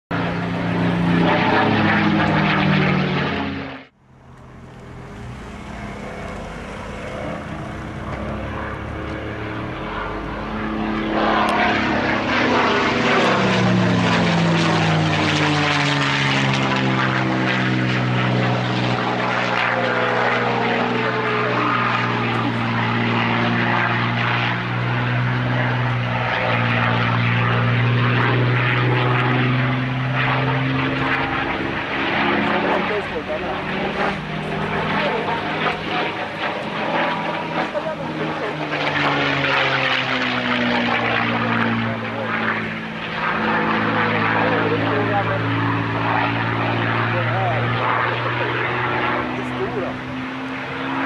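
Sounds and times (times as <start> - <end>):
propeller plane engine droning: 0.1 - 51.0.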